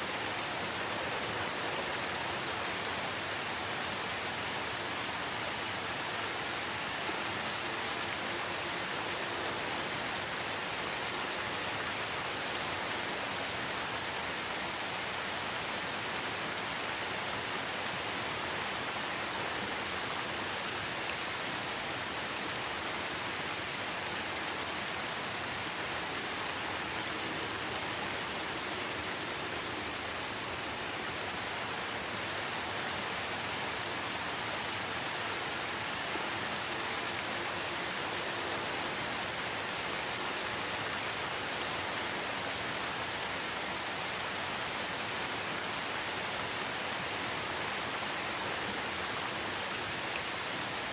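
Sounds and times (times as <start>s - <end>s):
steady rainfall hiss: 0.0s - 50.9s.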